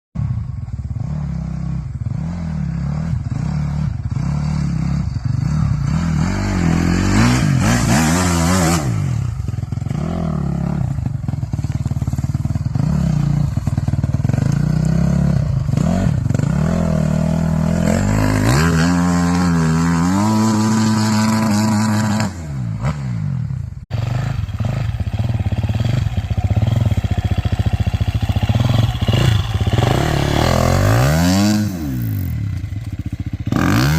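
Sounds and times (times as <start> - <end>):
dirt bike engine revving: 0.7 - 33.9.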